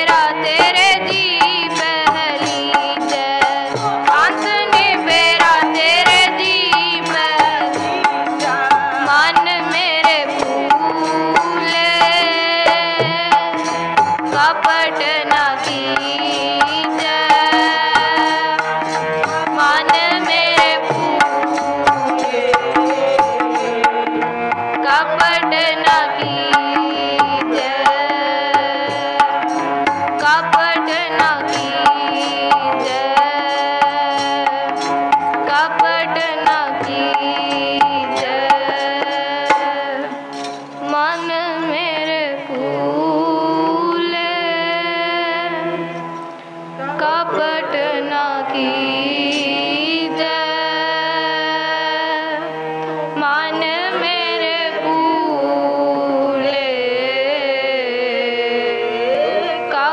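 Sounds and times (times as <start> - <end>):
woman singing a hymn: 0.0 - 7.8, 9.0 - 13.6, 14.3 - 18.8, 19.5 - 23.9, 24.8 - 29.4, 30.2 - 40.2, 40.8 - 46.0, 46.8 - 52.5, 53.2 - 59.9
harmonium chords: 0.0 - 59.9
tabla strokes: 0.0 - 59.9.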